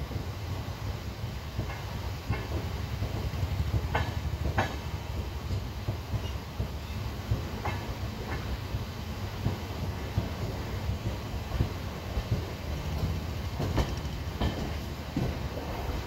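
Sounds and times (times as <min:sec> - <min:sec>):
train wheels rumbling on track: 0:00.0 - 0:16.0
wheels clicking over rail joints: 0:01.6 - 0:16.0.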